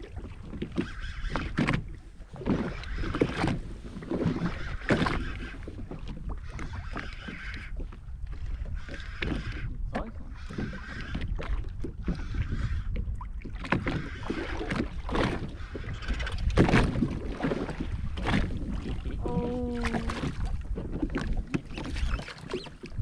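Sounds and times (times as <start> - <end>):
knocks and splashes: 0.0 - 8.5, 9.2 - 23.0
water slapping against hull: 0.0 - 23.0.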